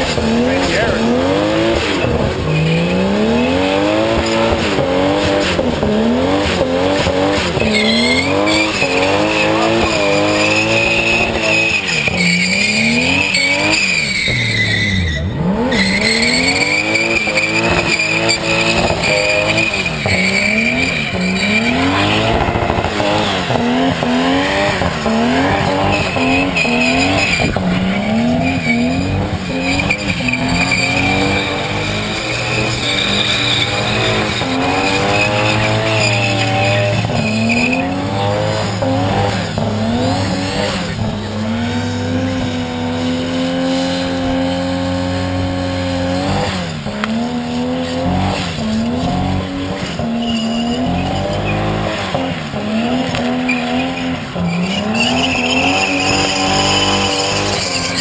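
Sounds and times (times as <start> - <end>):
car engine revving hard: 0.0 - 58.0
tyres squealing: 0.0 - 58.0.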